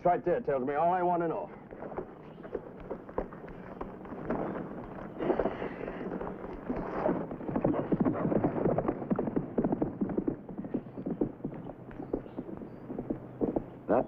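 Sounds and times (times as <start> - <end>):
horse hooves clip-clopping: 0.9 - 14.0.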